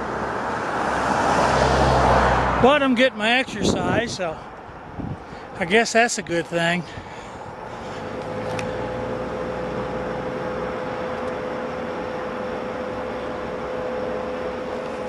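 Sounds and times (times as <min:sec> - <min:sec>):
road traffic: 0:00.0 - 0:15.0
constant hum: 0:02.5 - 0:15.0.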